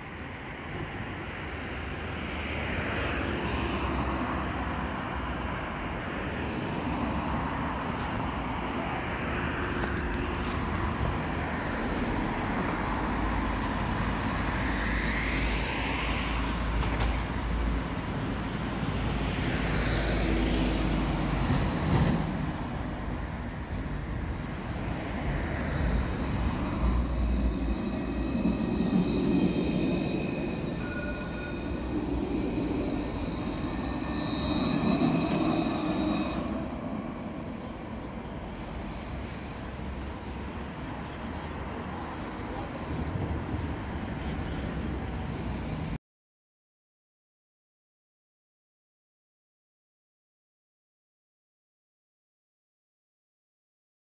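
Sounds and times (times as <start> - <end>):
tram high whine: 0.0 - 46.0
tram wheels rumbling on rails: 0.0 - 46.0.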